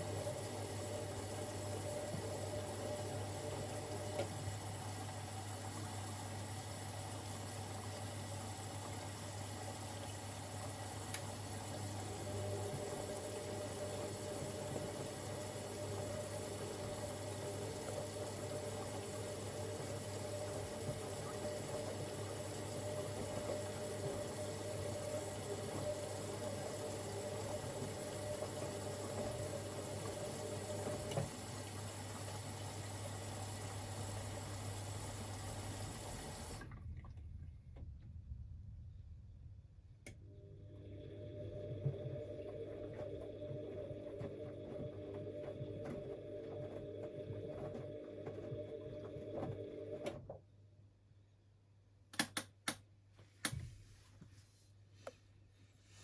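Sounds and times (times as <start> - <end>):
water sloshing in washing machine: 0.0 - 38.2, 40.5 - 50.3.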